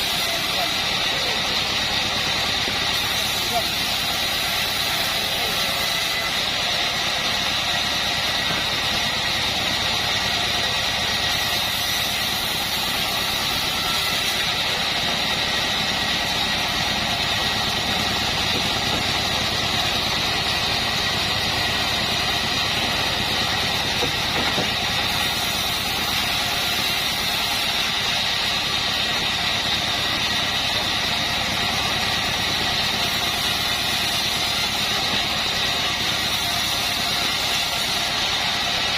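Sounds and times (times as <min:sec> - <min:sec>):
bandsaw mill drone: 0:00.0 - 0:38.9.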